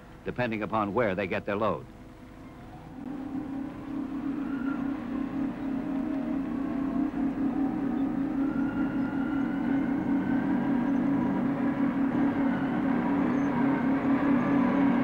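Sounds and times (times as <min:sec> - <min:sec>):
faint wavering whine: 0:00.9 - 0:15.0
diesel engine running under load: 0:02.7 - 0:15.0.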